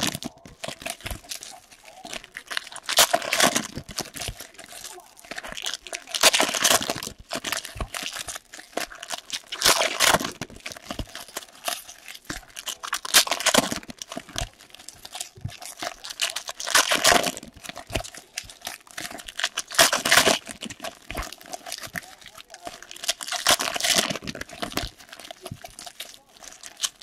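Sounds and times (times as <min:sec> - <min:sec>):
cards rustling: 0:00.0 - 0:27.0
foil wrappers tearing and crinkling: 0:00.0 - 0:27.0.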